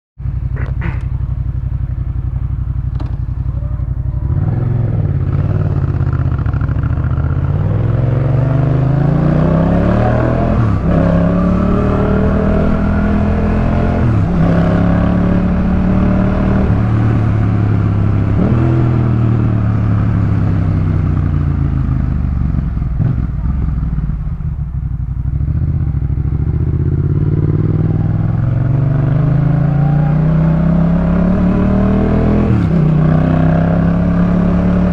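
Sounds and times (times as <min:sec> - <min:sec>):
motorcycle engine revving through gears: 0:00.2 - 0:34.9.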